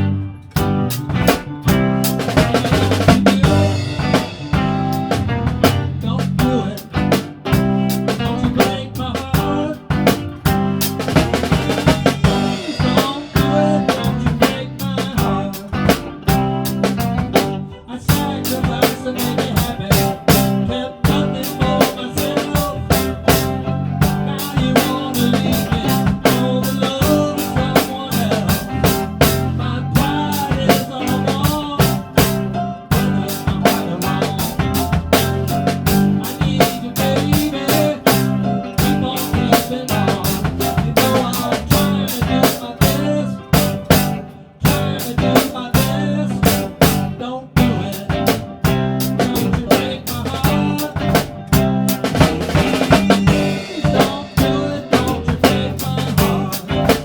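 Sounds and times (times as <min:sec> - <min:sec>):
band backing: 0:00.0 - 0:57.0
drum kit rock groove: 0:00.0 - 0:57.0.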